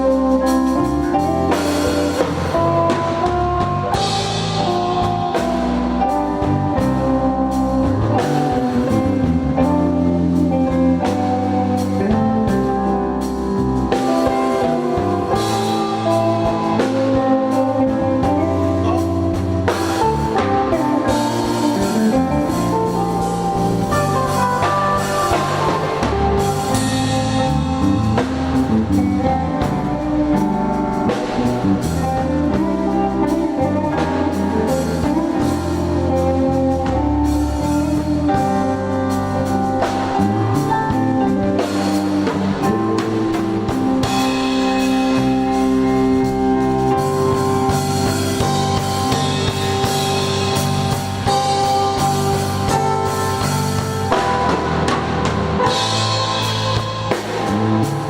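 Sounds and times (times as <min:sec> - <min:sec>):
bass: 0:00.0 - 0:58.0
drum kit: 0:00.0 - 0:58.0
guitar: 0:00.0 - 0:58.0.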